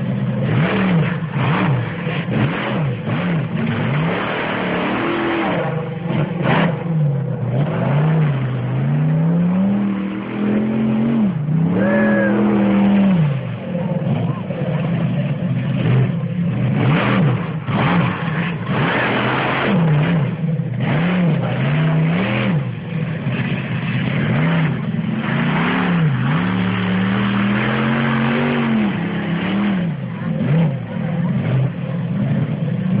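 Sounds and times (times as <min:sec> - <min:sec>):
monster truck engine revving: 0:00.0 - 0:33.0.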